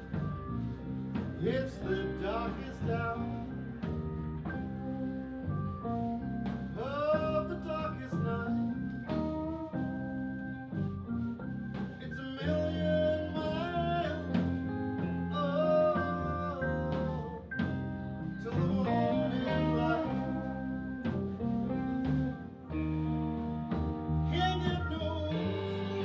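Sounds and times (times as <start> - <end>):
blues band playing: 0.0 - 26.0
lead guitar bending notes: 0.0 - 26.0.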